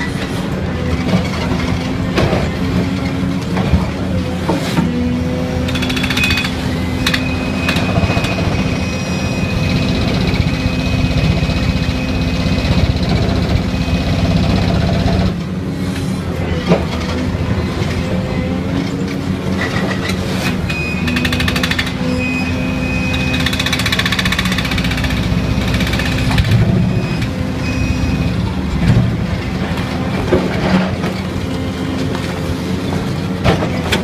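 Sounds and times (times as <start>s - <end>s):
excavator engine hum: 0.0s - 34.0s.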